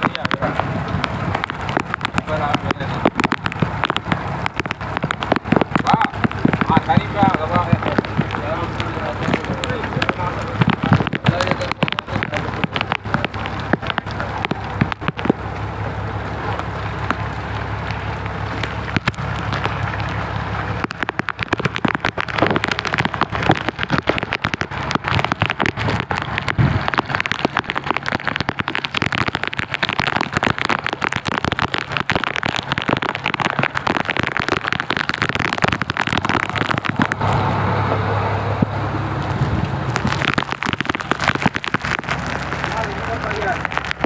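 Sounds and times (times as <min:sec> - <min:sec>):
heavy rain falling: 0:00.0 - 0:44.0
low steady hum: 0:00.0 - 0:44.0.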